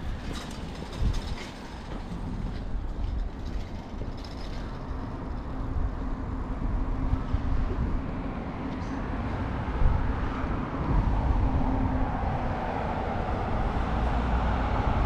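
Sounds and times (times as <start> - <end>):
traffic rumbling past: 0.0 - 15.0.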